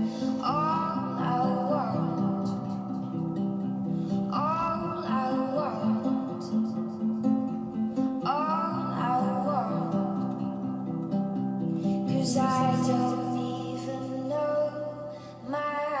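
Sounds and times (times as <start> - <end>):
person singing: 0.0 - 3.4, 4.0 - 10.9, 11.8 - 16.0
plucked guitar: 0.0 - 16.0.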